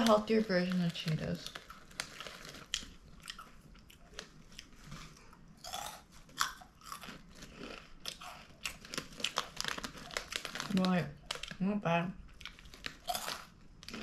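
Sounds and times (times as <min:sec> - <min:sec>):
chewing crunchy snacks: 0:00.0 - 0:11.6, 0:12.2 - 0:14.0.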